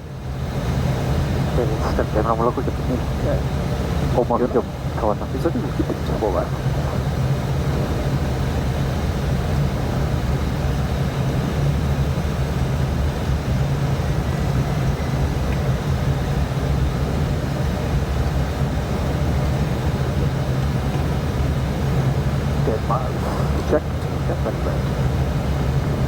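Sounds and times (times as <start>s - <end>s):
cockpit engine and airflow drone: 0.0s - 26.0s.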